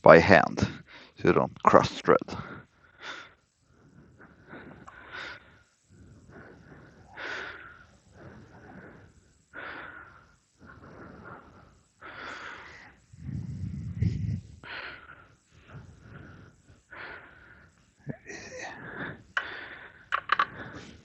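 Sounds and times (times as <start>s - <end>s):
person breathing heavily: 2.3s - 21.0s.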